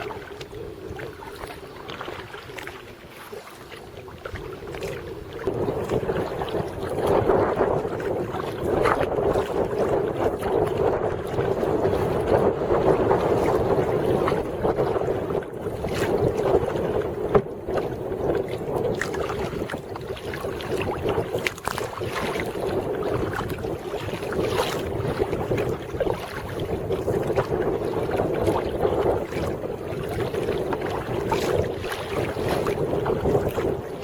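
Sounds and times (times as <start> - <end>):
water sloshing around kayak: 0.0 - 34.0
wind on microphone: 0.0 - 34.0.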